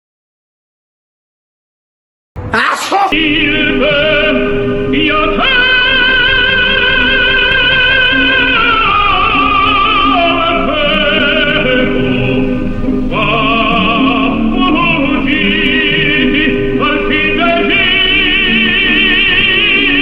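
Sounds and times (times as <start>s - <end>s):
operatic singing with vibrato: 2.4s - 20.0s.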